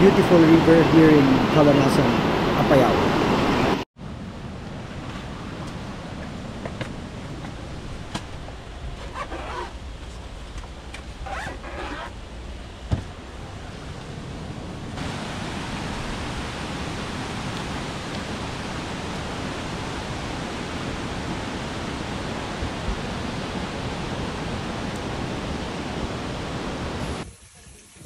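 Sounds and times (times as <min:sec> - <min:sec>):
mountain river rushing: 0:00.0 - 0:27.5.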